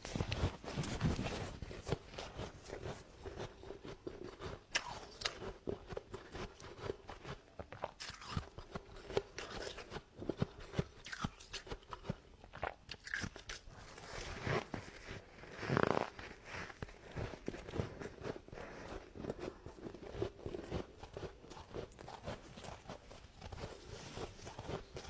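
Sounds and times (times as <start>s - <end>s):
frost being chewed crunching: 0.0s - 25.0s.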